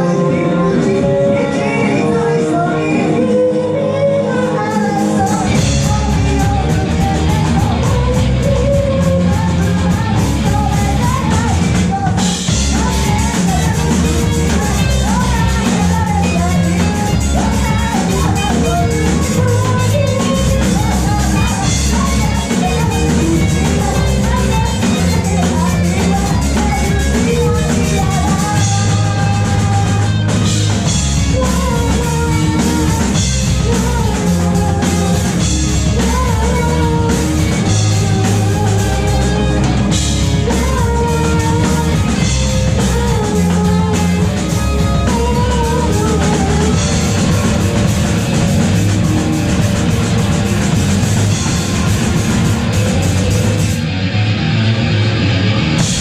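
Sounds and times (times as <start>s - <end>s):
person singing: 0.0s - 53.9s
rock band playing live: 0.0s - 56.0s.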